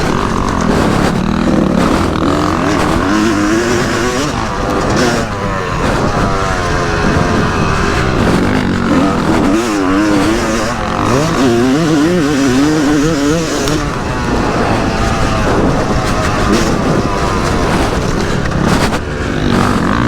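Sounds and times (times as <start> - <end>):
motocross engine revving: 0.0 - 20.0
steady rush of noise: 0.0 - 20.0.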